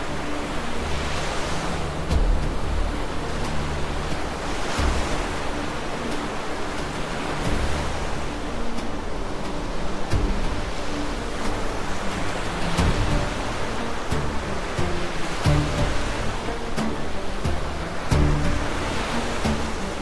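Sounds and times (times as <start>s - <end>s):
floodwater rushing and crashing: 0.0s - 20.0s.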